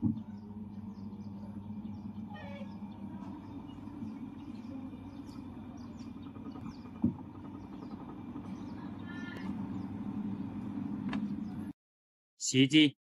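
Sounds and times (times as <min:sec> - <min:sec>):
washing machine spinning: 0:00.0 - 0:11.8.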